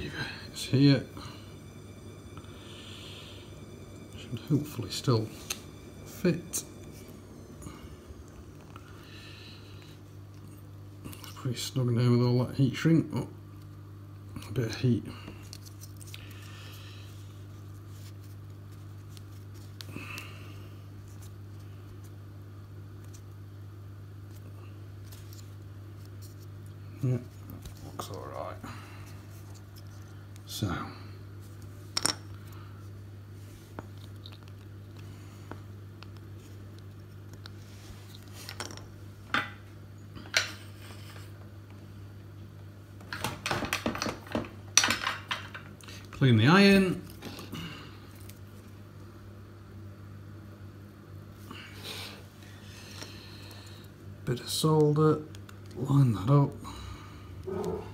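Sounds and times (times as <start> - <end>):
low electrical hum: 0.0 - 57.9.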